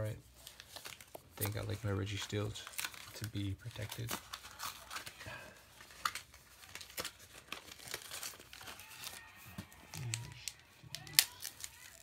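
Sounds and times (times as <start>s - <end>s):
plastic and foil packaging crinkling: 0.0s - 12.0s.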